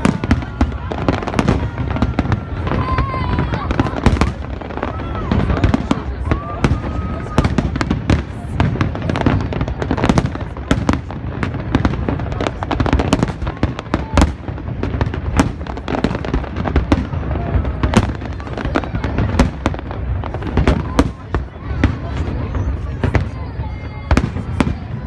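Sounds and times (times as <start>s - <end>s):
fireworks bangs and pops: 0.0s - 25.0s.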